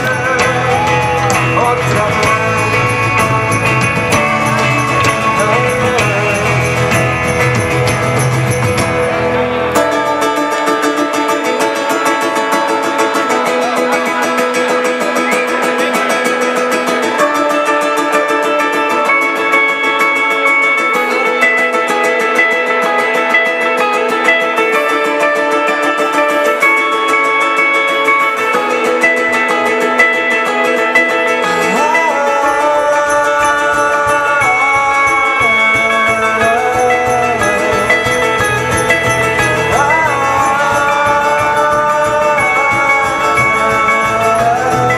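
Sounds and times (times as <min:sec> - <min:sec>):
electric guitars ringing: 0:00.0 - 0:44.9
live rock band playing: 0:00.0 - 0:44.9.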